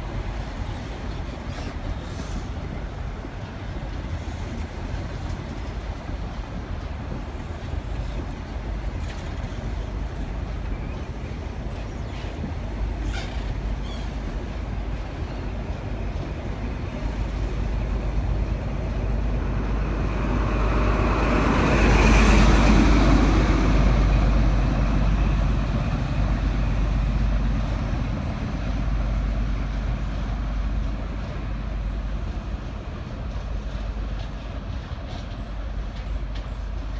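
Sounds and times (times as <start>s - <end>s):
train coaches rumbling past: 0.0s - 36.9s.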